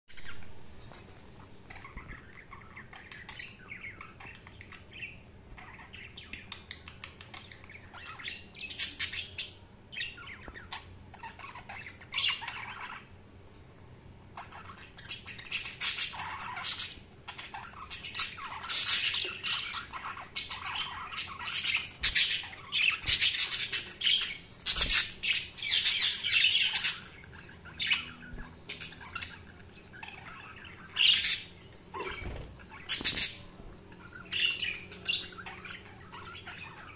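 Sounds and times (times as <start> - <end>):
budgerigars chirping and squawking: 0.2 - 13.2, 14.2 - 36.9.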